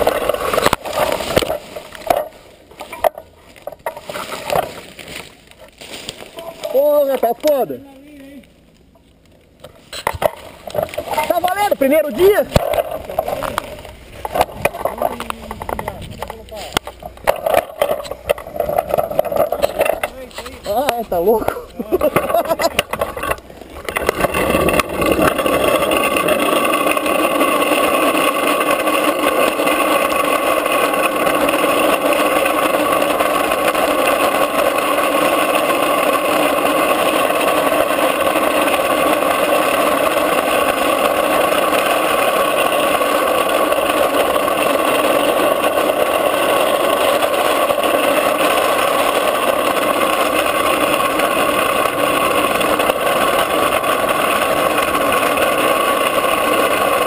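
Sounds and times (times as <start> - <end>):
plastic wheels rolling on asphalt: 0.0 - 57.0.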